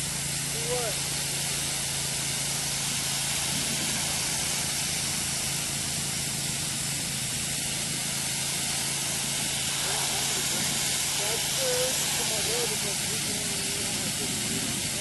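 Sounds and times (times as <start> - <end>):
hose spraying water: 0.0 - 15.0
low engine hum: 0.0 - 15.0.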